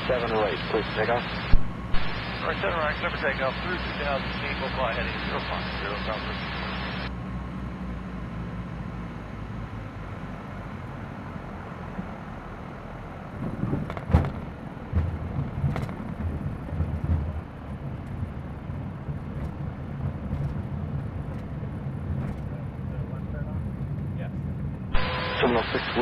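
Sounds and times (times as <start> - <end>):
piston engines droning: 0.0 - 26.0.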